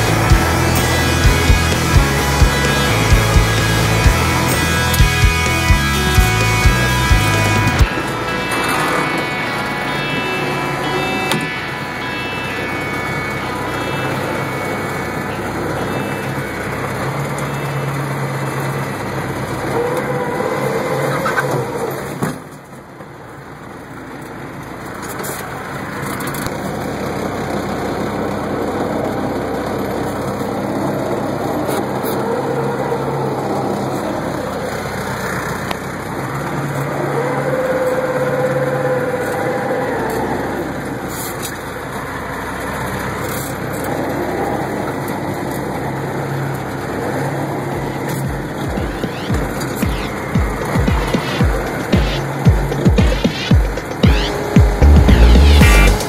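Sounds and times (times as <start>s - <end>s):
tractor diesel engine running: 0.0s - 22.2s, 23.1s - 56.0s.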